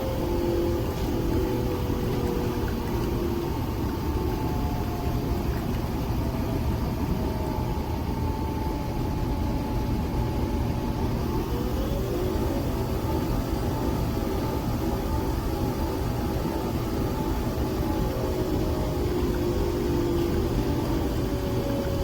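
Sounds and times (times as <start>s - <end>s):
coffee machine whirring: 0.0s - 22.0s.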